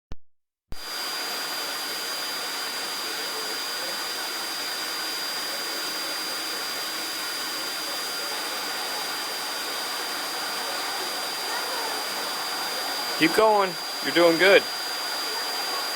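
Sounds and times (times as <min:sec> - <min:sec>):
vacuum cleaner running: 0:00.8 - 0:15.9.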